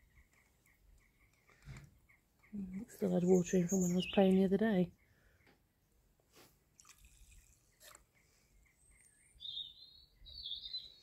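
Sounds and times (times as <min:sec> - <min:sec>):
small bird chirping: 0:00.0 - 0:05.6, 0:07.1 - 0:11.0.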